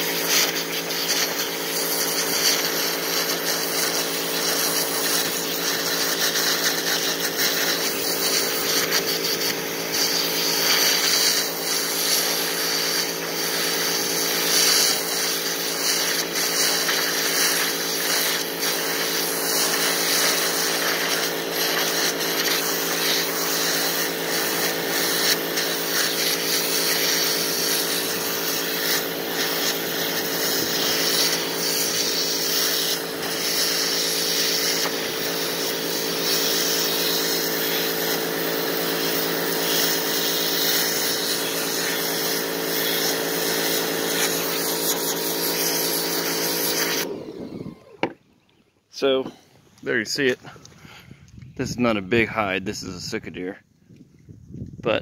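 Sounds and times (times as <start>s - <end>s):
water jet hissing: 0.0s - 47.1s
pressure washer pump hum: 0.0s - 49.7s.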